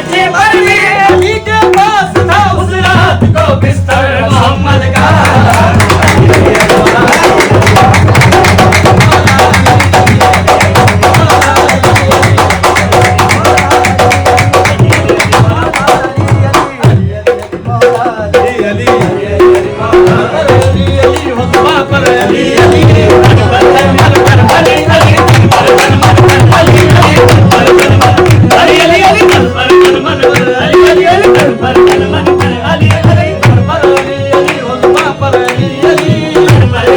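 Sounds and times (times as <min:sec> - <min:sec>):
rapid tabla drumming: 0:00.0 - 0:36.9.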